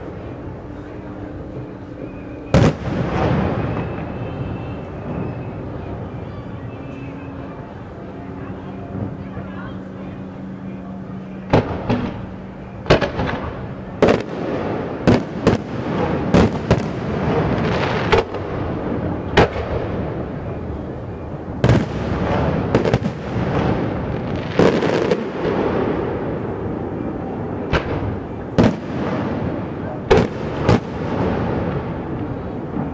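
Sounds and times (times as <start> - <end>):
continuous noisy din: 0.0 - 32.9
fireworks bangs: 1.6 - 6.6, 11.3 - 32.9.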